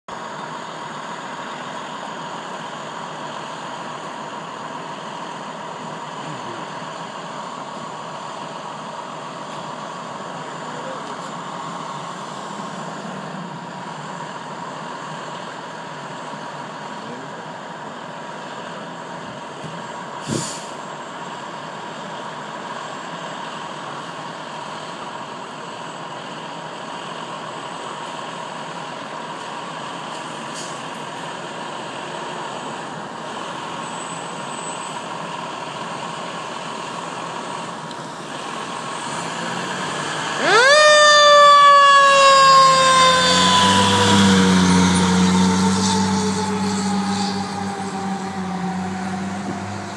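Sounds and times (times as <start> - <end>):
fire engine idling: 0.1 - 49.9.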